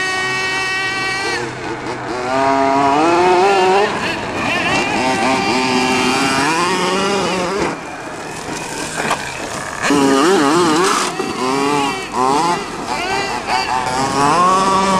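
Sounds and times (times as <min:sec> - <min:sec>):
small two-stroke engine revving: 0:00.0 - 0:14.9.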